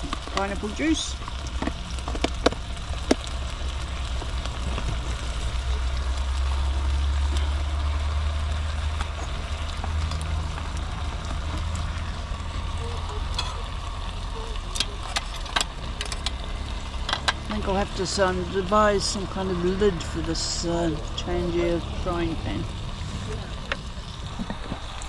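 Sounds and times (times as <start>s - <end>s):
burner low rumble: 0.0s - 25.0s
meat sizzling in a frying pan: 0.0s - 25.0s.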